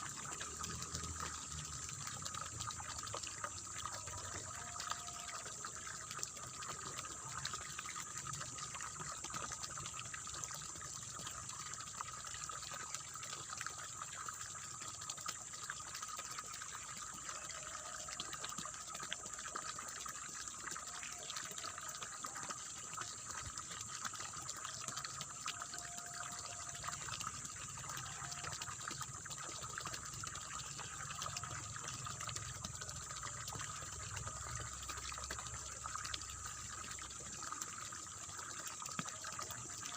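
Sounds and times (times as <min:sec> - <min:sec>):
water splashing and babbling: 0:00.0 - 0:39.9.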